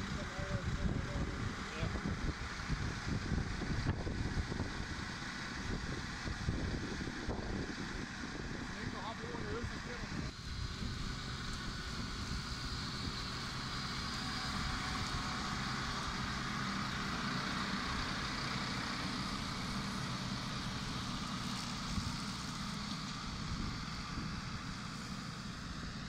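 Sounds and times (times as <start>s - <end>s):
diesel engine running under load: 0.0s - 26.0s
mower deck cutting grass hiss: 0.0s - 26.0s.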